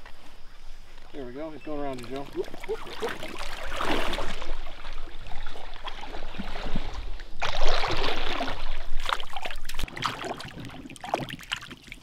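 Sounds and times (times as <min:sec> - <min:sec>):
water splashing around legs: 0:01.9 - 0:12.0.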